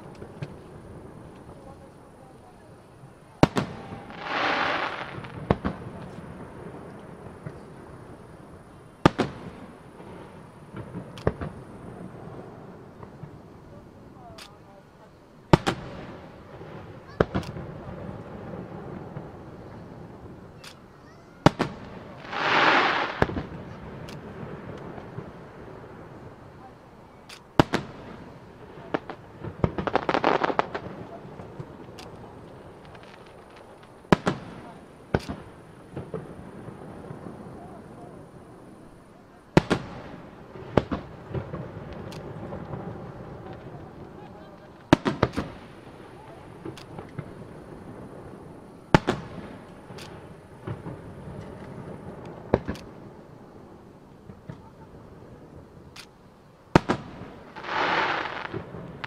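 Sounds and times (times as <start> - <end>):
firework pops and cracks: 0.0 - 2.7, 3.3 - 8.2, 9.0 - 14.8, 15.5 - 38.8, 39.4 - 59.0
firework bangs: 0.0 - 14.6, 15.5 - 56.0, 56.7 - 59.0.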